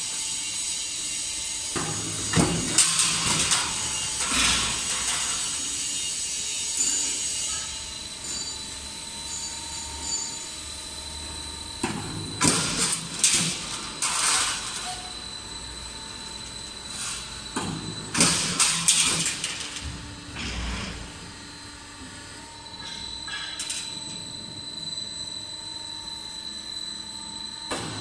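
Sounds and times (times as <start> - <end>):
high machine whine: 0.0 - 28.0.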